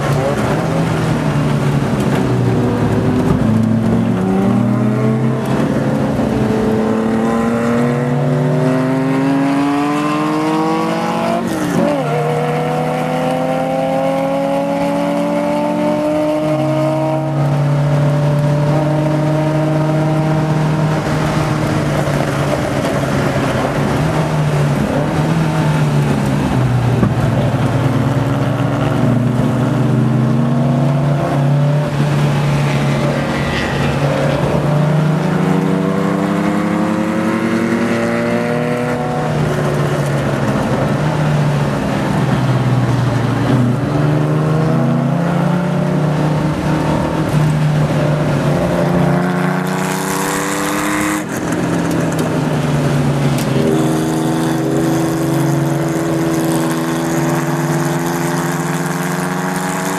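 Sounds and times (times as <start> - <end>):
race car engine accelerating: 0.0 - 59.9
wind and road noise: 0.0 - 59.9.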